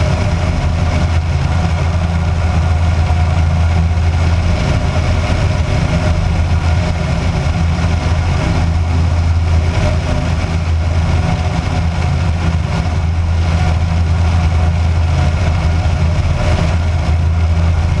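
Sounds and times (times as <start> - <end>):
aircraft engine and propeller droning: 0.0 - 18.0.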